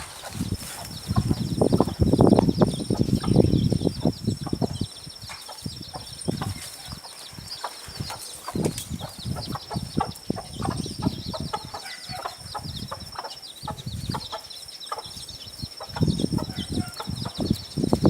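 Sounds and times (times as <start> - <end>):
hens clucking: 0.0 - 17.9
chicks peeping: 0.0 - 18.0.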